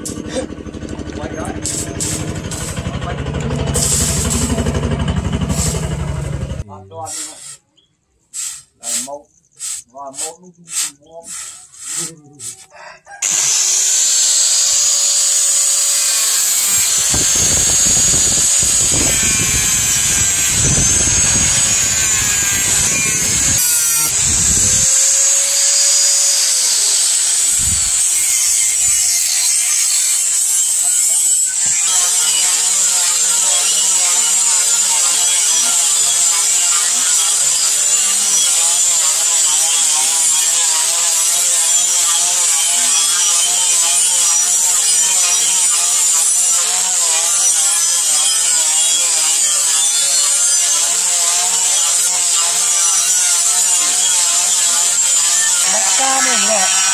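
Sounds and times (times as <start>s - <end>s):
angle grinder grinding steel: 0.0s - 56.9s
sanding disc on blade: 1.2s - 7.6s, 8.3s - 56.9s.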